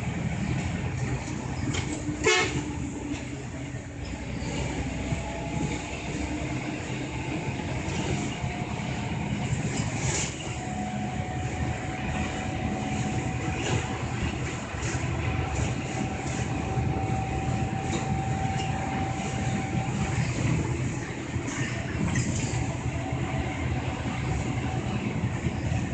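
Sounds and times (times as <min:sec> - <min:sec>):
bus engine and road rumble: 0:00.0 - 0:25.9.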